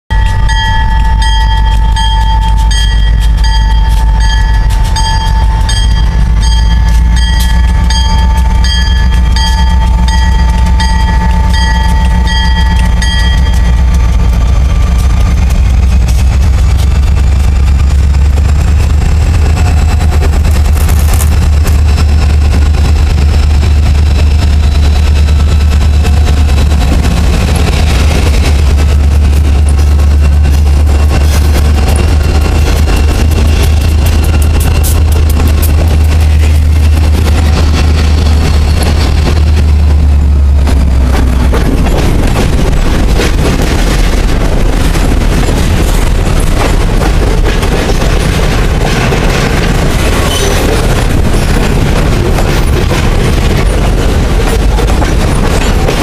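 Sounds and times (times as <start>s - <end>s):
diesel locomotive engine drone: 0.0s - 56.0s
clanks and clicks: 0.1s - 56.0s
train wheels clattering on rails: 0.1s - 56.0s.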